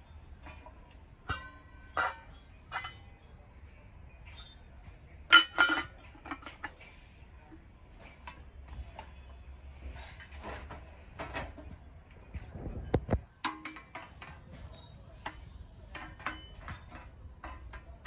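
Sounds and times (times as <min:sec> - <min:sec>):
metal kitchenware clinking: 0:00.0 - 0:03.5, 0:04.1 - 0:07.2, 0:08.0 - 0:18.0.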